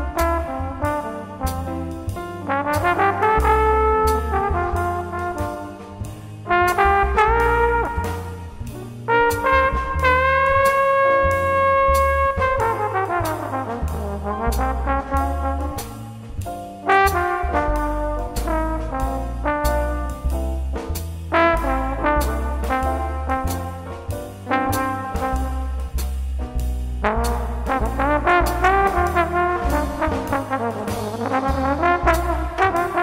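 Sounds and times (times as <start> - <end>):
double bass: 0.0 - 33.0
drums: 0.0 - 33.0
jazz horn solo: 0.0 - 33.0.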